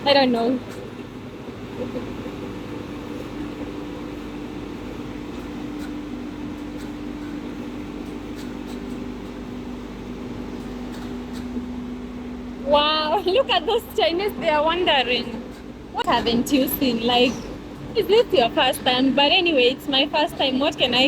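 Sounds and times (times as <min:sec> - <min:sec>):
car wash machine humming: 0:00.0 - 0:21.0.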